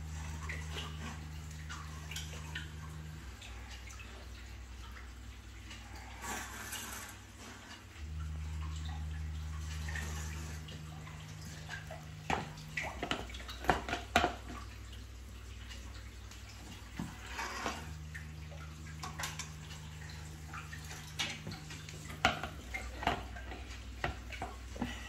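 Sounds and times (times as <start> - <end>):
low equipment hum: 0.0 - 25.0
water running and dripping: 0.0 - 25.0.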